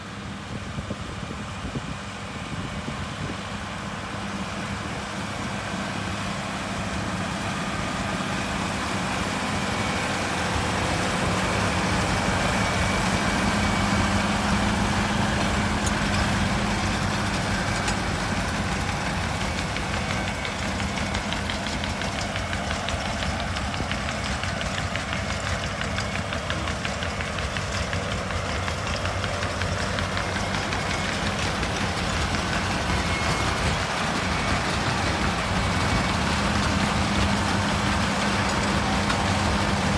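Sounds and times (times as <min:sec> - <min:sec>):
tractor diesel engine running: 0:00.0 - 0:39.9
baler mechanical clatter: 0:07.0 - 0:39.9.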